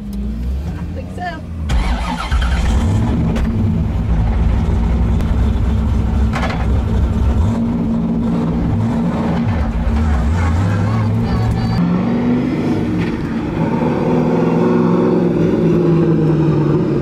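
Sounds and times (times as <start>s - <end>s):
car engine low drone: 0.0s - 17.0s.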